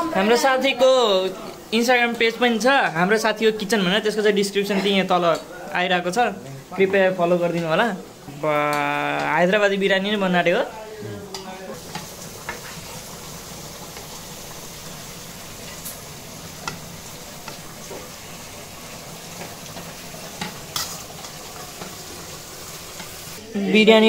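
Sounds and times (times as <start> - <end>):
pot sizzling: 0.0 - 24.0.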